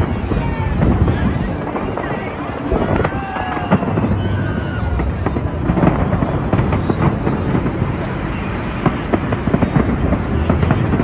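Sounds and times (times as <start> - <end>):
crowd voices: 0.0 - 11.0
fireworks bangs and crackles: 0.0 - 11.0.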